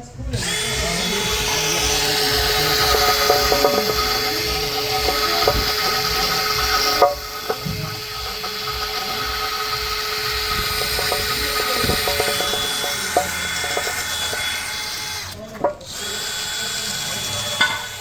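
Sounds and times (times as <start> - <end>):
power tool running: 0.0 - 18.0
hand tools clicking on metal: 0.4 - 16.2, 17.6 - 18.0.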